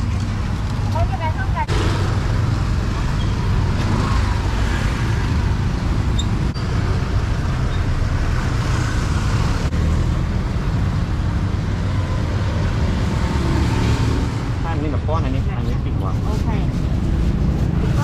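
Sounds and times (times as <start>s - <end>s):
busy street traffic rumble: 0.0s - 18.0s.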